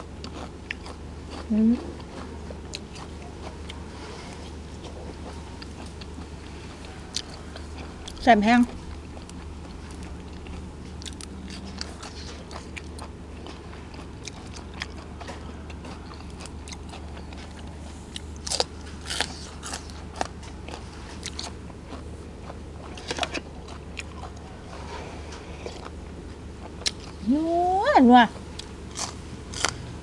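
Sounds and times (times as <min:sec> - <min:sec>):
person chewing crunchy food: 0:00.0 - 0:27.3, 0:28.4 - 0:30.0.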